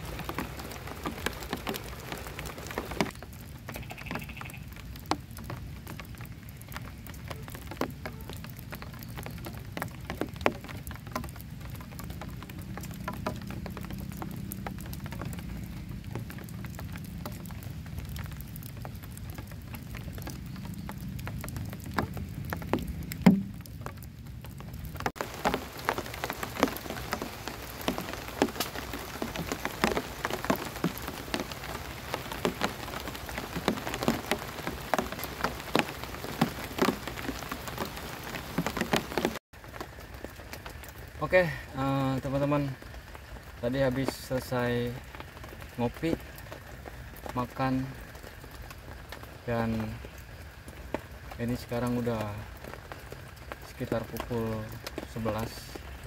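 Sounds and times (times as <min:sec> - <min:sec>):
rain on a shelter: 0:00.0 - 0:56.0.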